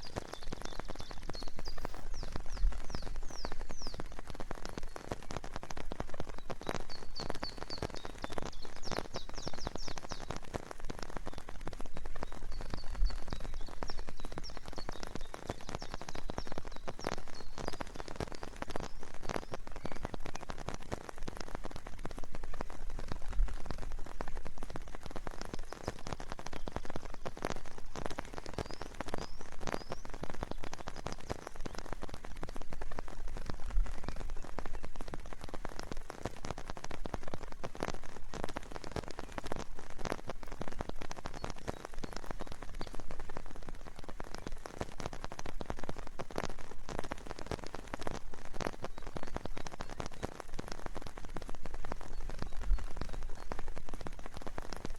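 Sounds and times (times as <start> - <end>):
raindrops ticking on a surface: 0.0 - 54.9
steady rain: 0.0 - 54.9.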